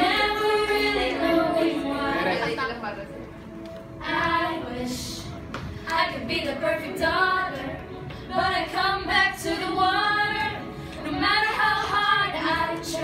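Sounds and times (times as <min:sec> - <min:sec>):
women singing: 0:00.0 - 0:02.7, 0:04.0 - 0:13.0.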